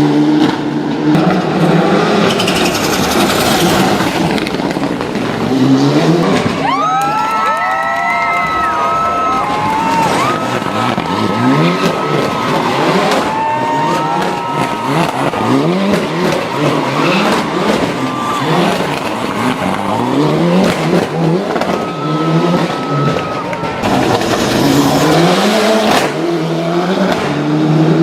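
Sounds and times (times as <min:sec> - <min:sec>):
car engine revving: 0:00.0 - 0:06.8, 0:08.6 - 0:28.0.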